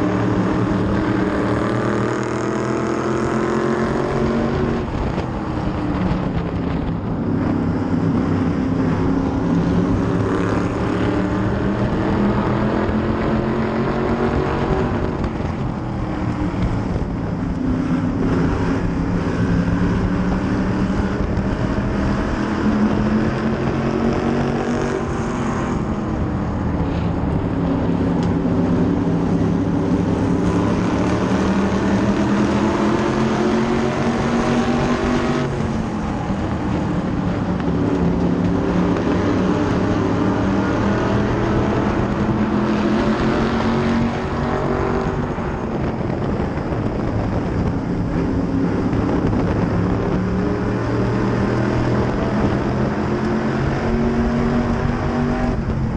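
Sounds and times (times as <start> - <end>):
race car engine at full throttle: 0.0 - 55.9
surrounding race car engines: 0.0 - 55.9.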